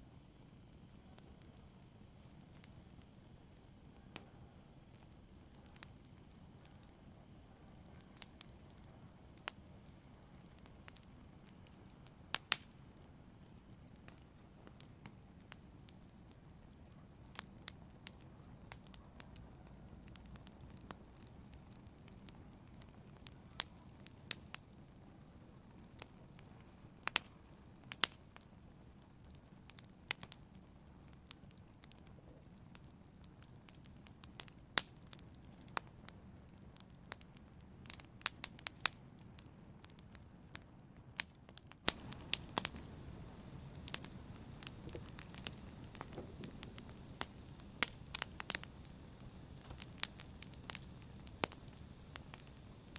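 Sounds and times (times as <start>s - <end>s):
low rumble of flames: 0.0s - 52.9s
logs crackling and popping: 0.2s - 52.9s.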